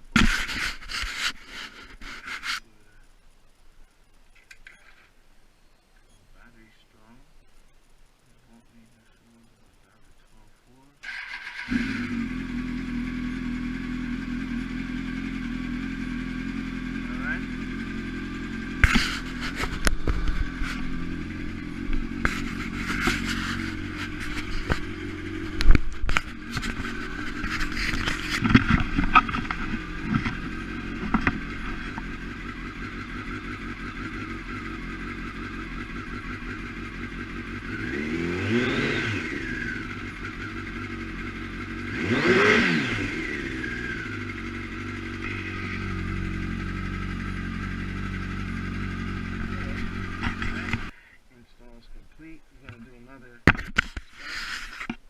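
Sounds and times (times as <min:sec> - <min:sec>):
motorcycle engine idling and revving: 0:06.4 - 0:55.0.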